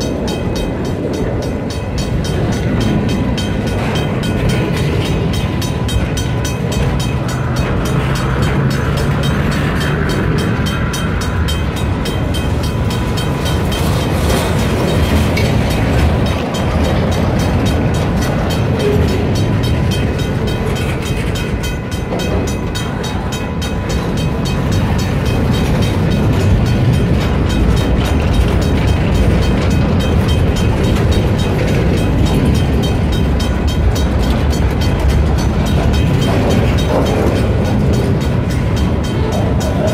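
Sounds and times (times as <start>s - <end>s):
diesel locomotives rumbling: 0.0s - 39.9s
wheels ticking on rails: 0.0s - 39.9s.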